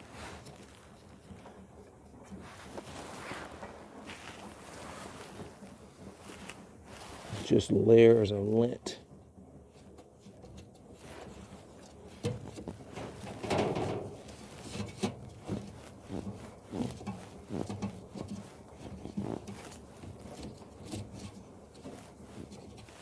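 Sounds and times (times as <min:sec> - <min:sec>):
lint rustling scrape: 0:02.3 - 0:07.7, 0:09.8 - 0:23.0.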